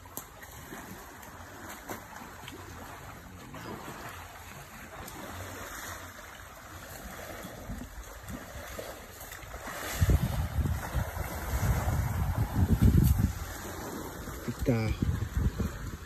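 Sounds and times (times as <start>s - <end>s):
elephant splashing water: 0.0s - 16.0s.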